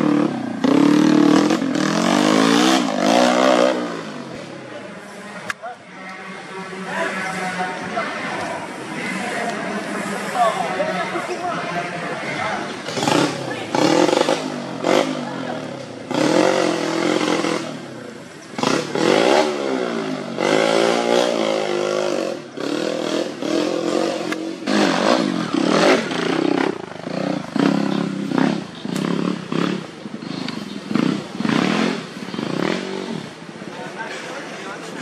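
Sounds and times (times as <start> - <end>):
dirt bike engine revving: 0.0 - 33.6.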